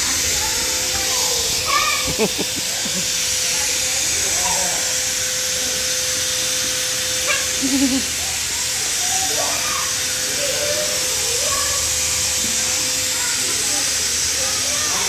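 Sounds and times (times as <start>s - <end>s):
motor hum: 0.0s - 15.0s
snow machine blowing air: 0.0s - 15.0s.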